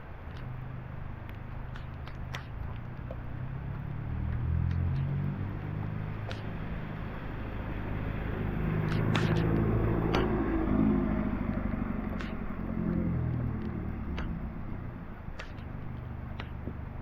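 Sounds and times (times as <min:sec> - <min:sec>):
sharp ticks: 0:00.0 - 0:17.0
vehicle engine passing: 0:00.0 - 0:17.0.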